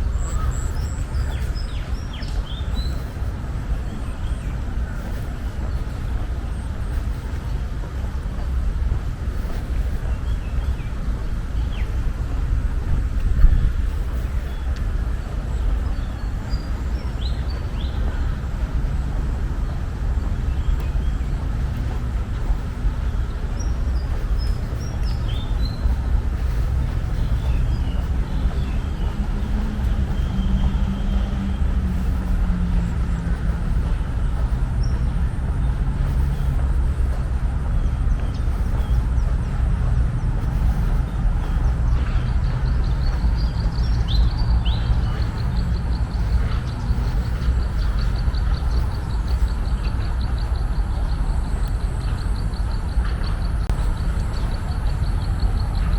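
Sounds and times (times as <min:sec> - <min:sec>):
low rumble of city traffic: 0:00.0 - 0:55.9.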